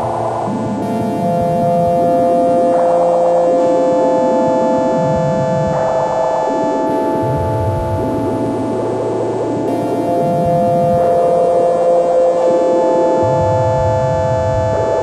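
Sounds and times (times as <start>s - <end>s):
synthesizer drone music: 0.0s - 15.0s.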